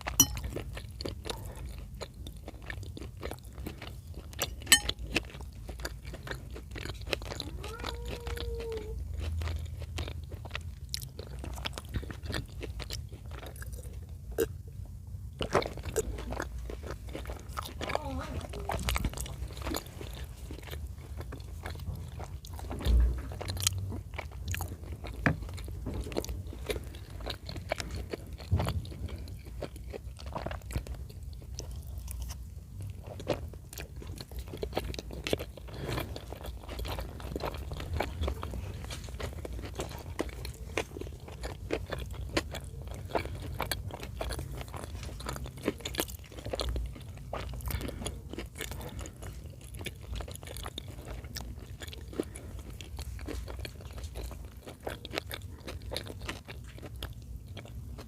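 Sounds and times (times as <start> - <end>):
chewing and mouth sounds: 0.0 - 58.0.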